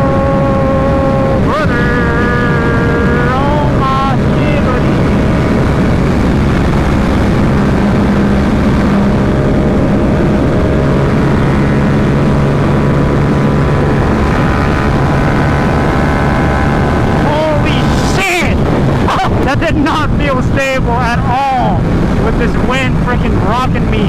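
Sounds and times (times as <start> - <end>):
motorcycle engine cruising: 0.0 - 24.0
wind rushing on microphone: 0.0 - 24.0.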